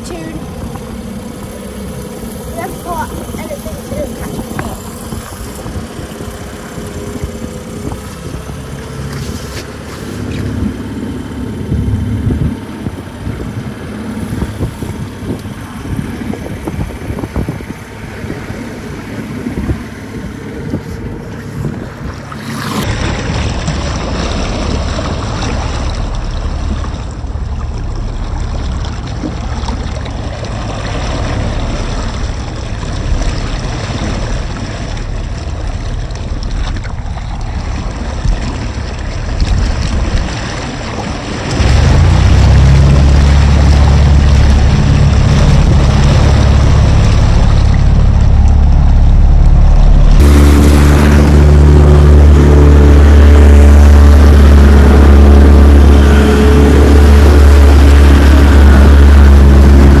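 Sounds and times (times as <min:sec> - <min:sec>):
boat motor running: 0:00.0 - 1:00.0
water rushing along boat hull: 0:00.0 - 1:00.0
wind: 0:00.0 - 1:00.0.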